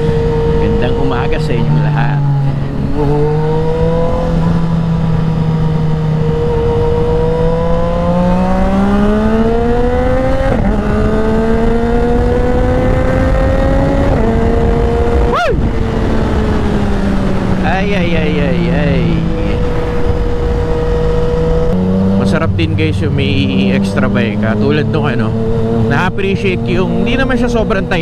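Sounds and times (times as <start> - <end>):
motorcycle engine accelerating: 0.0 - 28.0
wind over microphone: 0.0 - 28.0.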